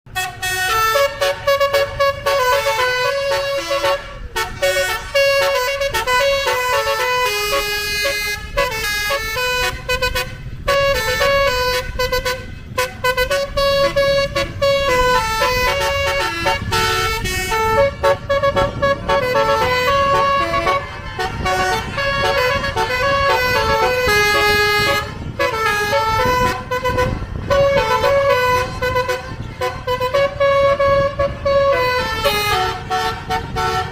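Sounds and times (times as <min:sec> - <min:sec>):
bus engine rumble: 0:00.1 - 0:33.9
bus horn playing fast melody: 0:00.1 - 0:33.9.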